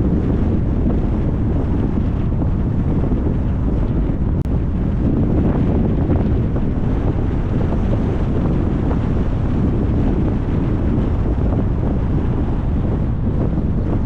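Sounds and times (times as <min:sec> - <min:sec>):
car road noise: 0:00.0 - 0:14.0
wind buffeting microphone: 0:00.0 - 0:14.0.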